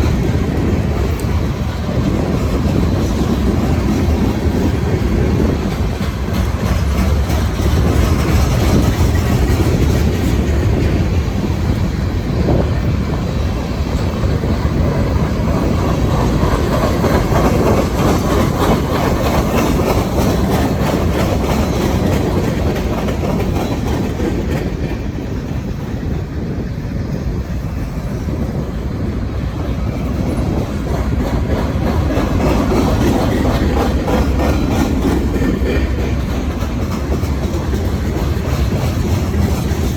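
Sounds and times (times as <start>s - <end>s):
clickety-clack over rail joints: 0.0s - 39.9s
freight train wheels rumbling on rail: 0.0s - 39.9s.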